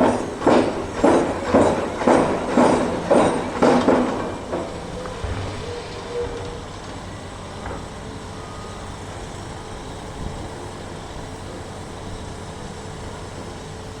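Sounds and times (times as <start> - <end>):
drilling machine engine rumbling: 0.0 - 14.0.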